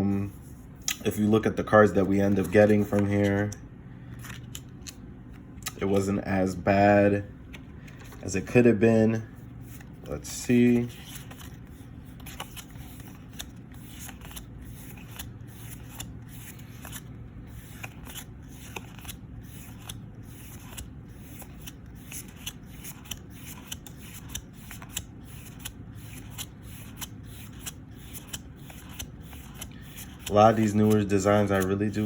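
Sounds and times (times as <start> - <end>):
cards flipped by hand: 0.8 - 1.2, 2.0 - 6.1, 9.6 - 32.0.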